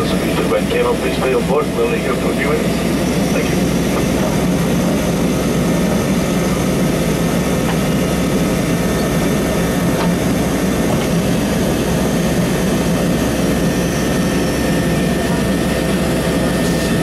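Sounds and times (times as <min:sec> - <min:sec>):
propeller airplane engines drone: 0:00.0 - 0:17.0.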